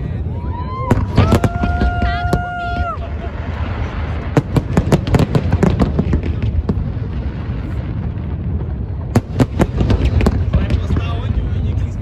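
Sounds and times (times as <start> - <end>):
fireworks cracking and banging: 0.6 - 12.0.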